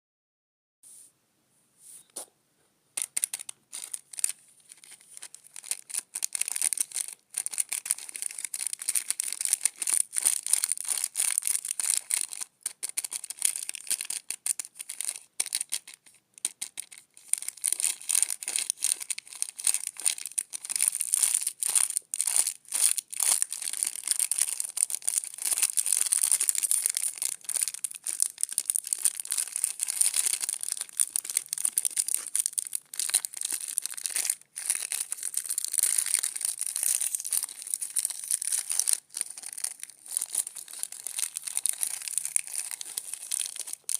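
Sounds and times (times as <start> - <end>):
candy wrapper crinkling and tearing: 3.0 - 43.9.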